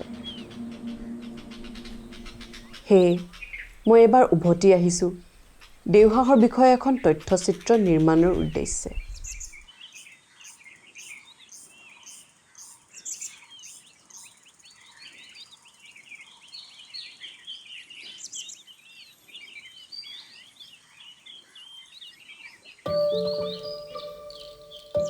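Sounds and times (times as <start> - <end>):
small birds chirping and twittering: 0.0 - 25.0.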